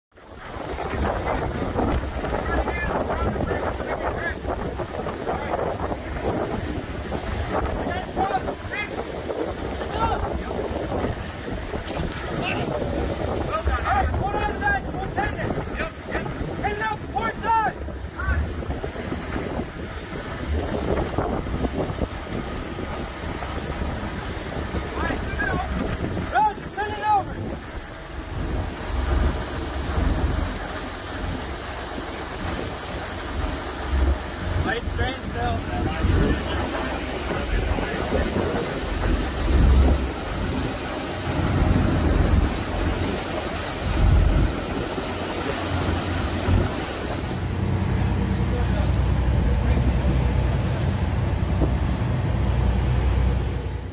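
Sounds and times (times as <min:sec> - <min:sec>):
choppy sea washing: 0:00.1 - 0:53.9
wind buffeting the microphone: 0:00.1 - 0:53.9.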